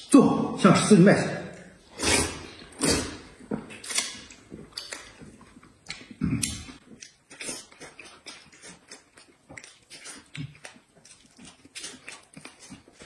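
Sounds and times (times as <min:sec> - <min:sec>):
chewing and mouth smacking: 0:02.0 - 0:13.0.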